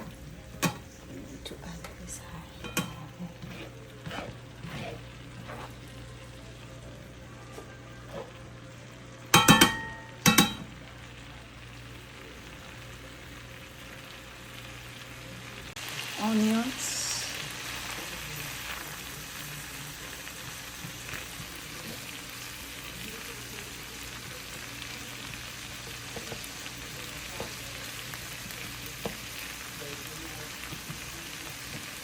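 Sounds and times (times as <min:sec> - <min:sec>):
onions sizzling in a pan: 0:00.0 - 0:32.0.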